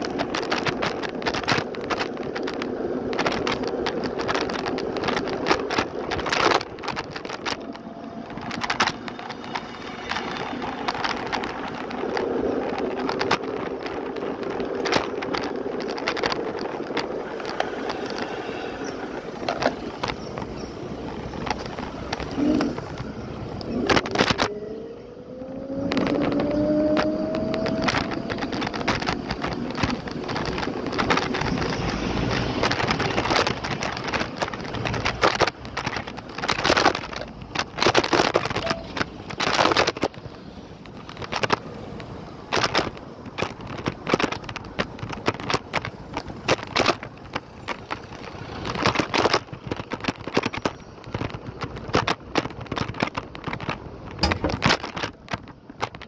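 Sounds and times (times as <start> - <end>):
scooter rattling over pavement: 0.0 - 56.0.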